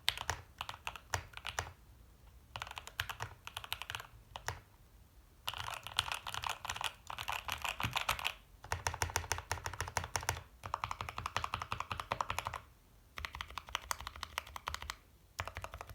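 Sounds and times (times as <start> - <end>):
mechanical keyboard typing: 0.0 - 1.8, 2.5 - 4.6, 5.5 - 15.9.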